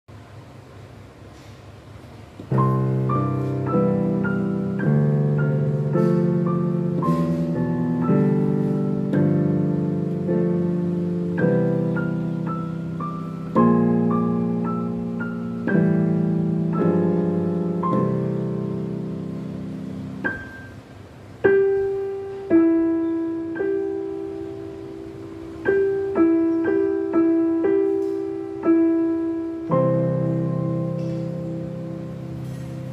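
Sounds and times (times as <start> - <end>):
piano duet: 2.4 - 32.9.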